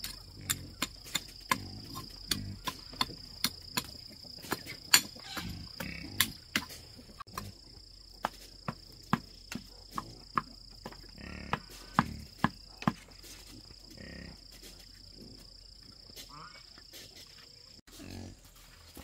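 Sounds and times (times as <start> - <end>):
high insect whine: 0.0 - 17.2.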